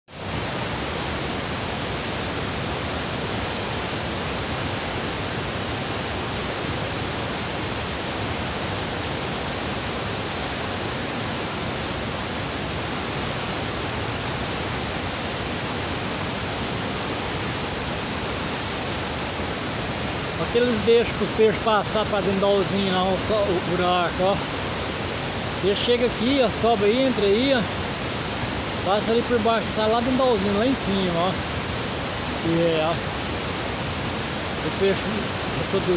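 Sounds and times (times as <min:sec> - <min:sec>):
waterfall rushing: 0:00.1 - 0:35.9.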